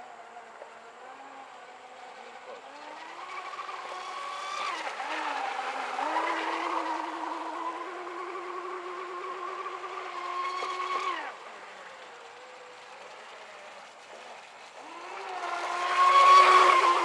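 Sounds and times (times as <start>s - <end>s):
electric motor whining: 0.5s - 13.3s, 14.8s - 17.0s.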